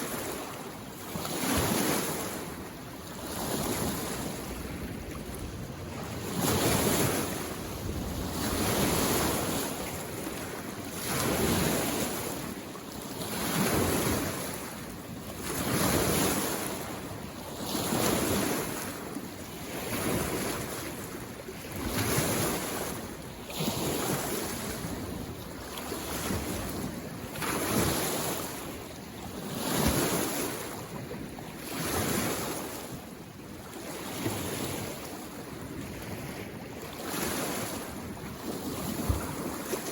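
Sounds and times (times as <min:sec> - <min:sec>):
small waves washing ashore: 0:00.0 - 0:39.9.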